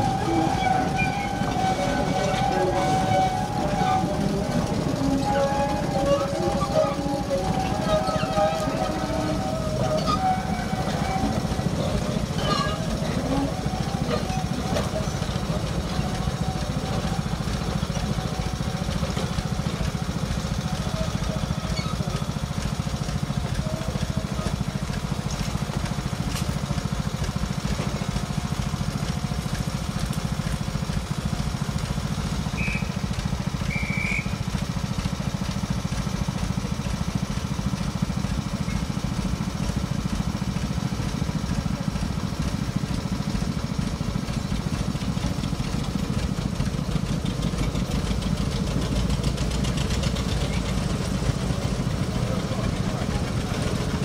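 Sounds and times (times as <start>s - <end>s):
diesel locomotive engine idling: 0.0s - 54.0s.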